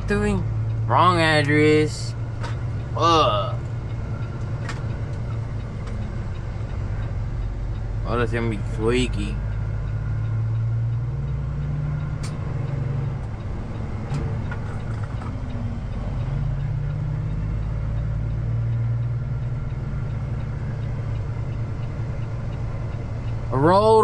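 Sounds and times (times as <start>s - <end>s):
diesel truck engine droning: 0.0s - 24.0s.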